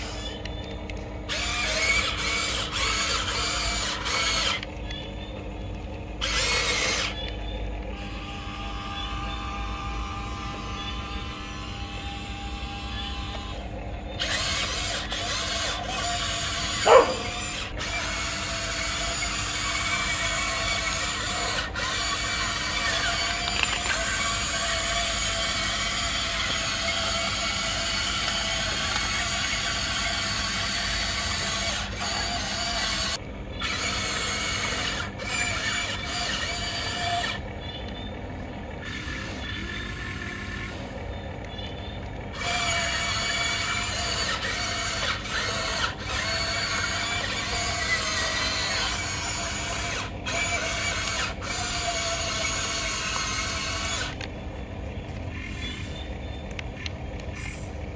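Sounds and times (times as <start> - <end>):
toy excavator motors whirring: 0.0 - 57.9.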